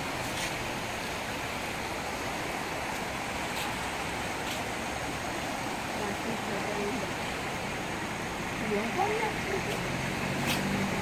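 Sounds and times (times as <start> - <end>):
flooded river rushing: 0.0 - 11.0.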